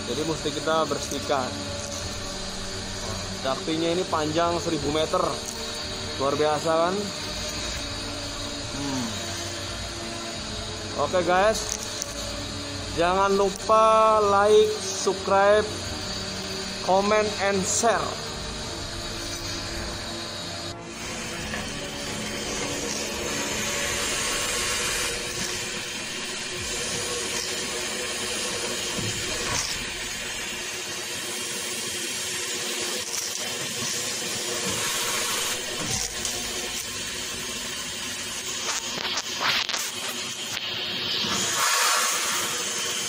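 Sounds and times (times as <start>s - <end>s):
vacuum cleaner running: 0.0s - 43.0s.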